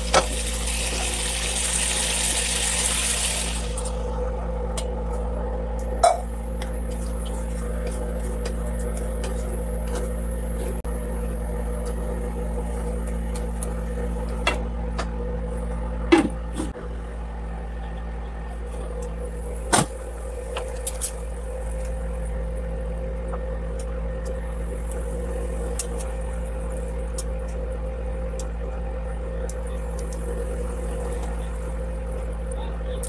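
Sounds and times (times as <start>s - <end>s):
induction cooktop hum: 0.0s - 33.0s.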